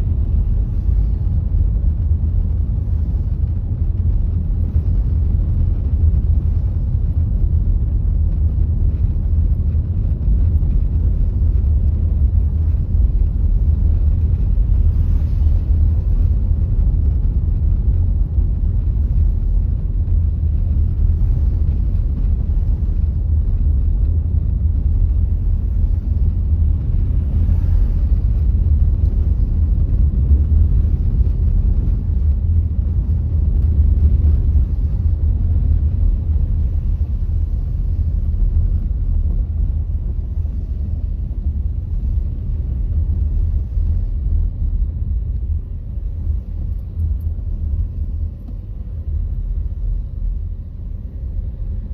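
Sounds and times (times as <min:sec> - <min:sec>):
car engine and tyre rumble: 0:00.0 - 0:51.9.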